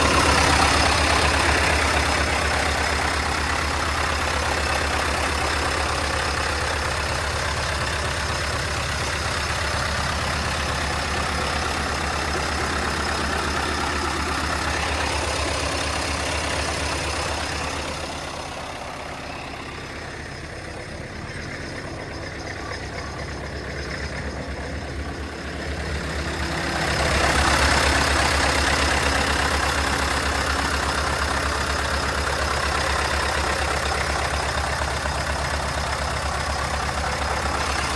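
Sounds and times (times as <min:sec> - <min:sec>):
truck diesel engine idling: 0:00.0 - 0:37.9.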